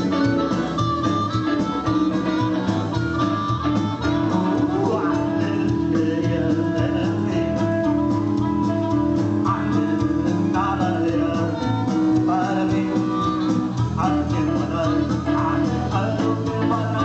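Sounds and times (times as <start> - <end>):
blues band playing: 0.0 - 17.0
guitar: 0.0 - 17.0
steady drum beat: 0.0 - 17.0.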